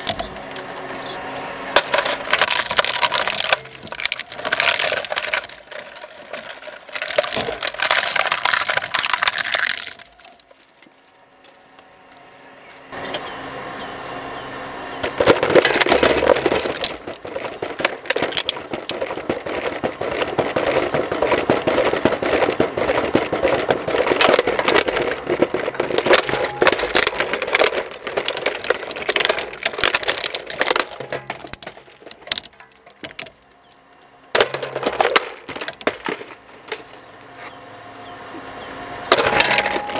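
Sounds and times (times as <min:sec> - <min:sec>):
shredder crunching plastic: 0:00.0 - 0:12.0, 0:14.9 - 0:37.1, 0:39.1 - 0:39.9.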